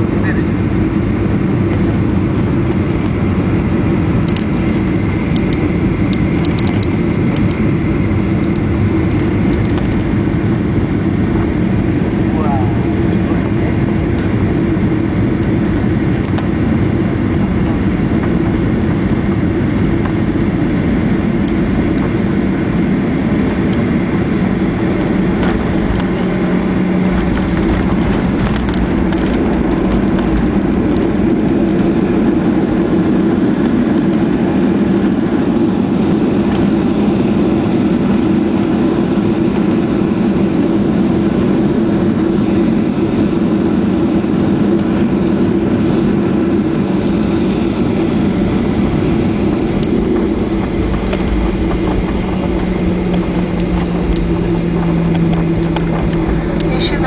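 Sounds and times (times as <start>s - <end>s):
jet cabin engine rumble: 0.0s - 57.0s.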